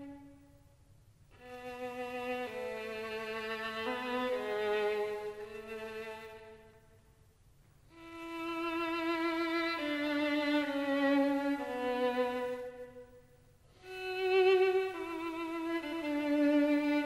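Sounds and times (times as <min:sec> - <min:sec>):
violin playing slow melody: 0:00.0 - 0:00.6, 0:01.3 - 0:07.0, 0:07.9 - 0:17.0.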